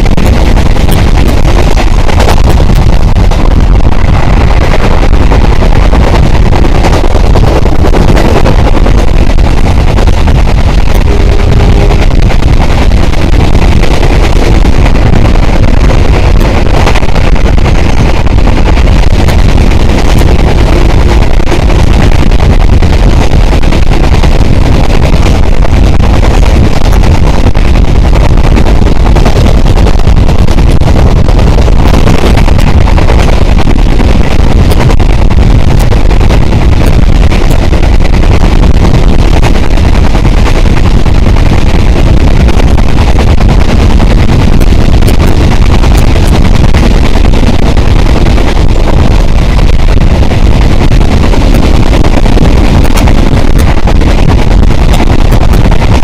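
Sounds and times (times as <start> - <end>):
wind rushing on microphone: 0.0 - 56.0.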